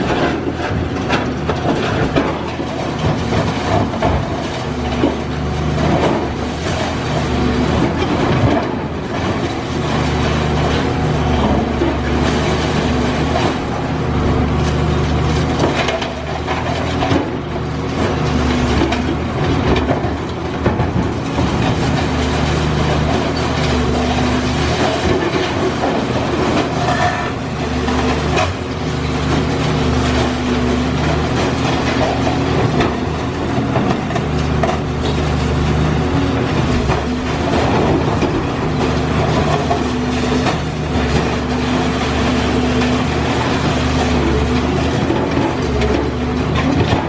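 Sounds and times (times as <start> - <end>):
concrete and debris crunching: 0.0 - 47.0
excavator diesel engine drone: 0.0 - 47.0.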